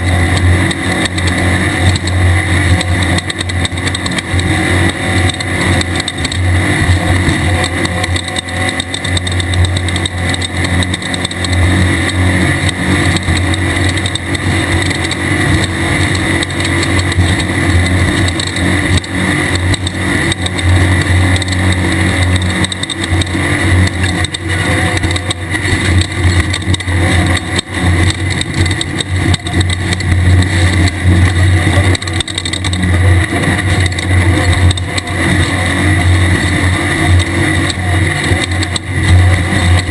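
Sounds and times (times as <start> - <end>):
race car engine running hard: 0.0 - 39.9
road and chassis clatter: 0.0 - 39.9.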